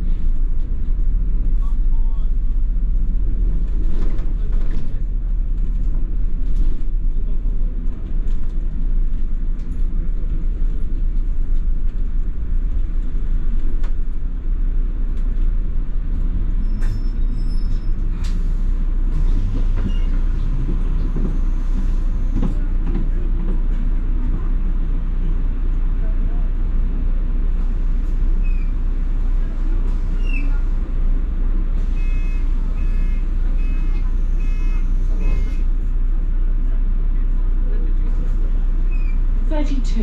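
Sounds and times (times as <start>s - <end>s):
bus engine and road rumble: 0.0s - 40.0s.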